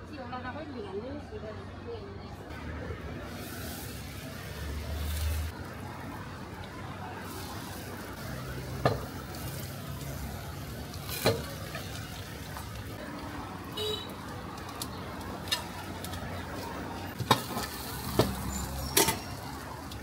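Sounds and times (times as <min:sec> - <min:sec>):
flatbread sizzling on a griddle: 0:03.2 - 0:16.6, 0:17.2 - 0:20.0.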